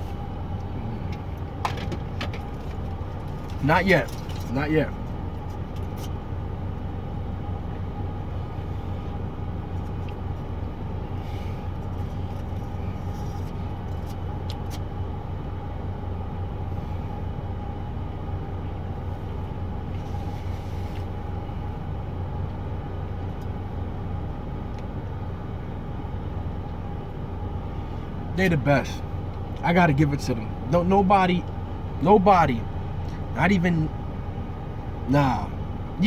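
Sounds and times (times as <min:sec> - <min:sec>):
idling car hum from inside: 0:00.0 - 0:36.0.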